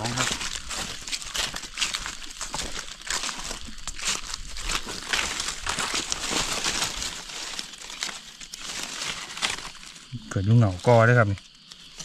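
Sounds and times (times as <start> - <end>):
dry leaves crackling and rustling: 0.0 - 12.0.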